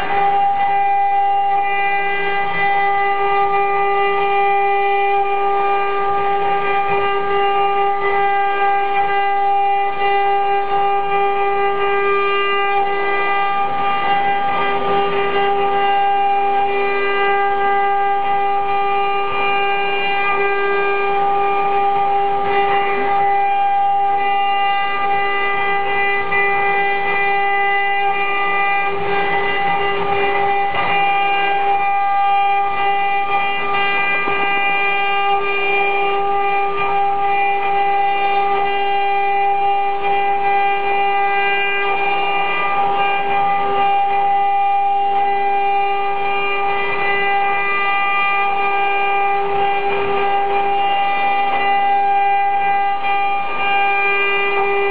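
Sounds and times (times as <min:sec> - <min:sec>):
spindles whining: 0:00.0 - 0:54.9.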